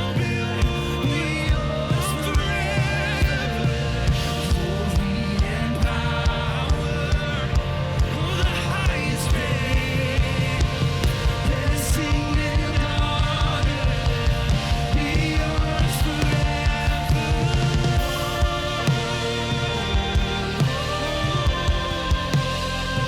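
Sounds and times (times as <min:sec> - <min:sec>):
rock worship music: 0:00.0 - 0:23.0
steady drum beat: 0:00.0 - 0:23.0.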